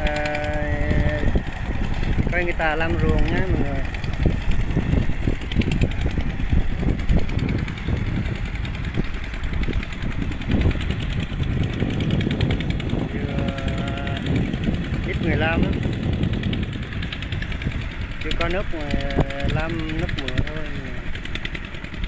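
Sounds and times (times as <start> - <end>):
tractor engine chugging: 0.0 - 22.0
wind on microphone: 0.0 - 22.0.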